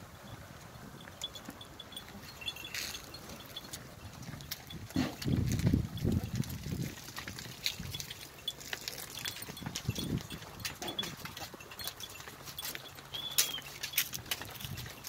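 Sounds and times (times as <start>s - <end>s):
hooves clicking on dirt: 0.0s - 15.0s.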